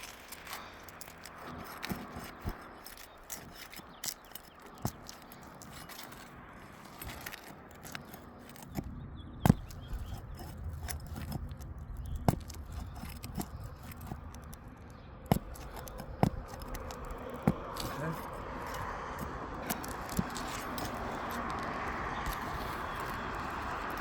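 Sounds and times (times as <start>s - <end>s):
hand tool clicks and knocks: 0.0s - 24.0s
scraping and rustling: 0.0s - 24.0s.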